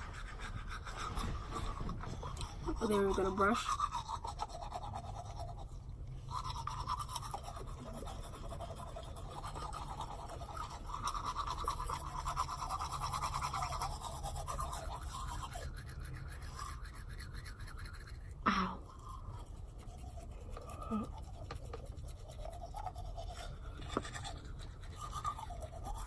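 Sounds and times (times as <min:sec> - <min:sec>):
toothbrush scrubbing teeth: 0:00.0 - 0:26.0.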